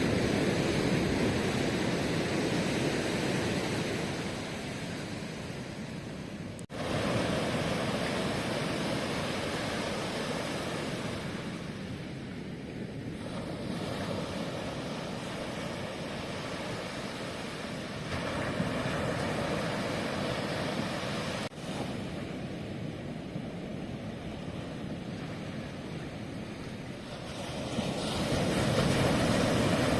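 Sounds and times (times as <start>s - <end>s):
ocean surf breaking: 0.0s - 29.9s.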